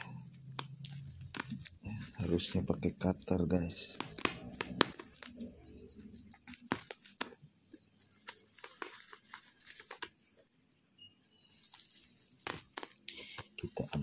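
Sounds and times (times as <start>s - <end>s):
plastic bag and tape crinkling: 0.0s - 10.3s, 11.4s - 14.0s.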